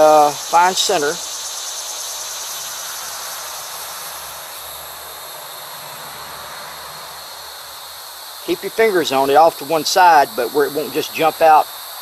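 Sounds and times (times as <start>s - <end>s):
background hiss: 0.0s - 12.0s
high-pitched insect buzzing: 0.0s - 12.0s.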